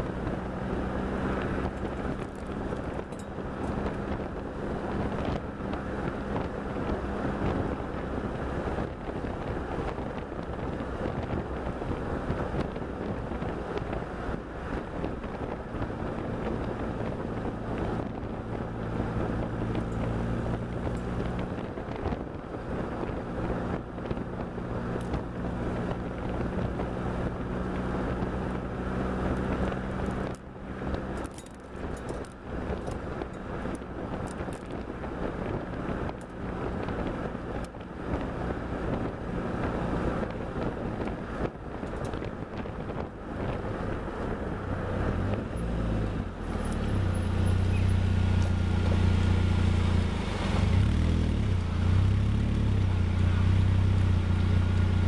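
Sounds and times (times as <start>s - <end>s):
sports car engine: 0.0s - 55.0s
wind noise on microphone: 0.0s - 55.0s.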